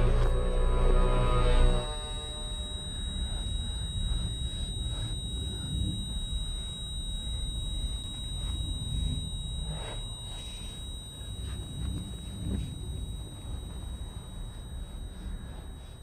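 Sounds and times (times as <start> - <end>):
faint high whine: 0.0 - 16.0
low steady rumble: 0.0 - 16.0.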